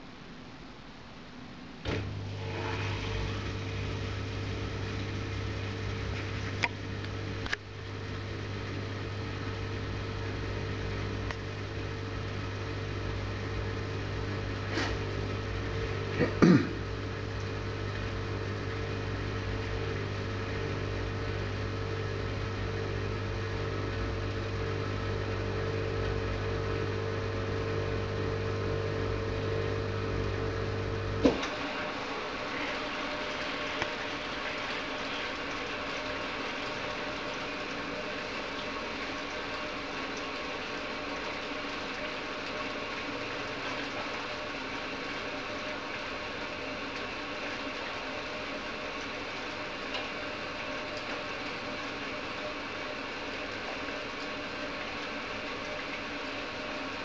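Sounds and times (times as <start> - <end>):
dishwasher pump humming: 1.5 - 57.0.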